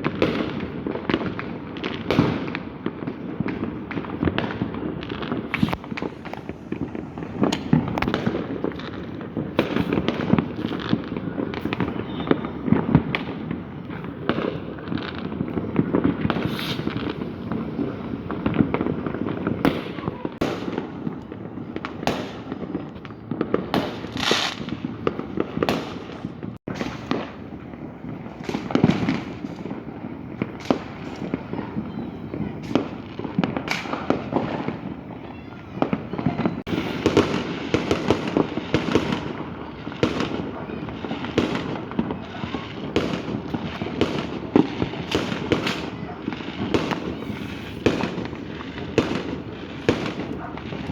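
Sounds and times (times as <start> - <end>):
fireworks and firecrackers exploding: 0.0 - 50.9.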